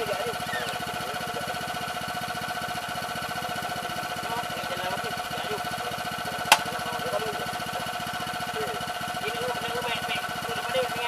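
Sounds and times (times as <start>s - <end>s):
constant whine: 0.0s - 11.0s
small engine running: 0.0s - 11.0s.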